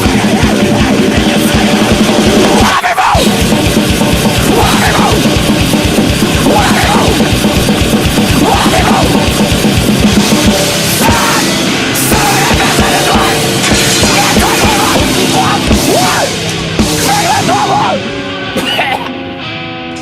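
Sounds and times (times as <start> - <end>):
fast dense drumming: 0.0 - 18.8
heavy metal music: 0.0 - 20.0.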